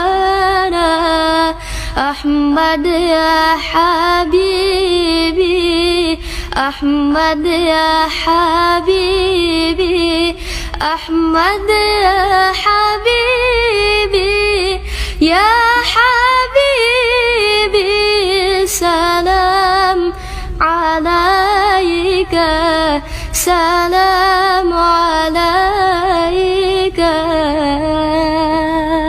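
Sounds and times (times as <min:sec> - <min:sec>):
girl singing devotional song: 0:00.0 - 0:29.0.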